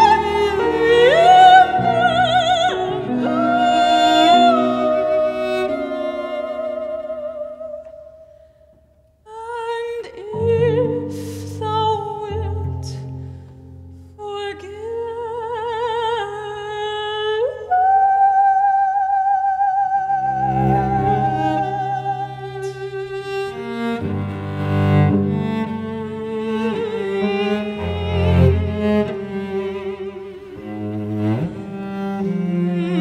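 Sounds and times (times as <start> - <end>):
classical singers with vibrato: 0.0 - 8.4, 9.3 - 13.2, 14.2 - 33.0.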